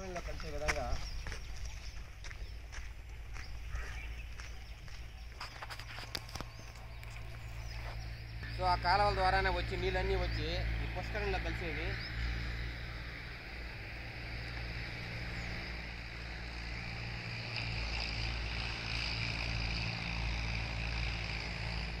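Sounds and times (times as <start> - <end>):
insect drone: 0.0 - 22.0
wind rumbling on microphone: 0.0 - 22.0.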